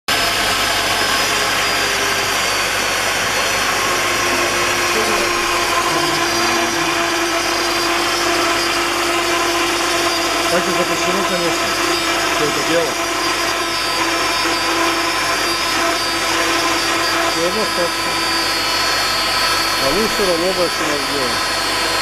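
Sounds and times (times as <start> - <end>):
machine motor whirring: 0.1 - 22.0.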